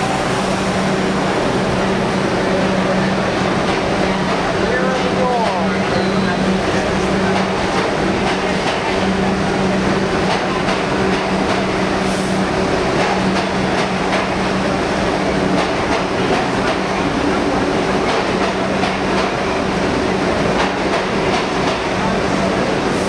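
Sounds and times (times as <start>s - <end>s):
subway train rumbling: 0.0s - 23.0s
train wheels clacking over rail joints: 2.8s - 22.8s.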